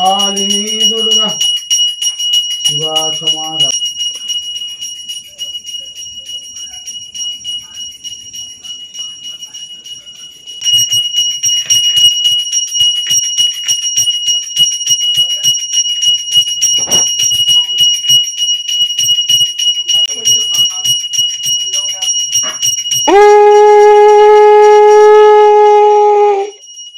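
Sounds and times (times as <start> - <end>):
hand bell ringing: 0.0 - 26.9.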